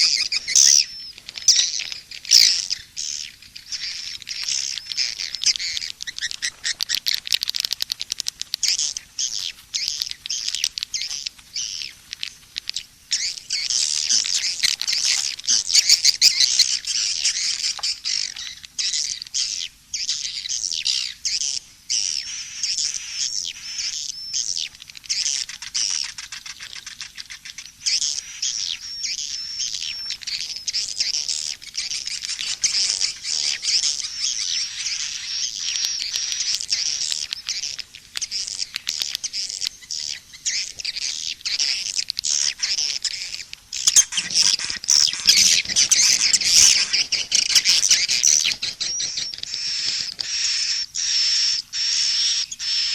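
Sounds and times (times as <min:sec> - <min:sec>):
fast clicking trills: 0:00.0 - 0:19.4, 0:24.6 - 0:51.2
swiftlets chirping and twittering: 0:00.0 - 0:52.9.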